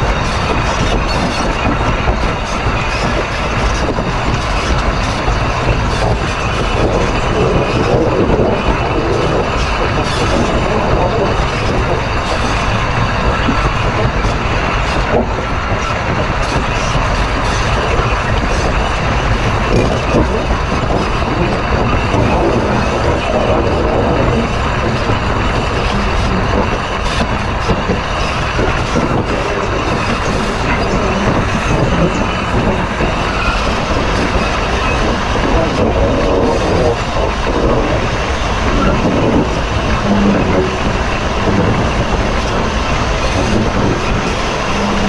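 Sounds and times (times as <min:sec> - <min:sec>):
train wheels grinding on curved rail: 0:00.0 - 0:45.0.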